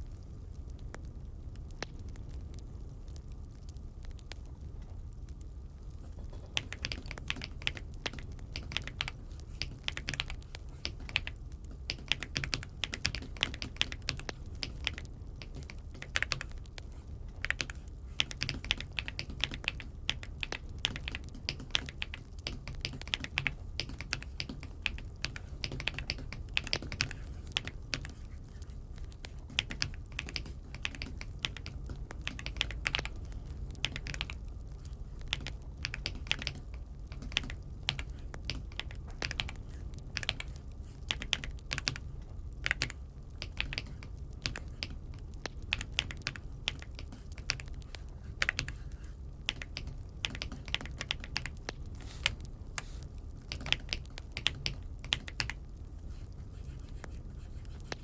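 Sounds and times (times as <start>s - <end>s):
steady low hum: 0.0s - 58.0s
mechanical keyboard typing: 6.3s - 55.7s.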